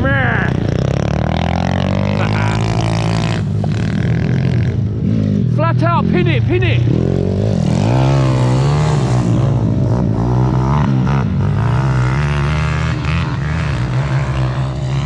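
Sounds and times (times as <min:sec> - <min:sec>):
mini-bike engine revving: 0:00.0 - 0:05.4, 0:06.8 - 0:15.0
steady engine hum: 0:00.0 - 0:15.0.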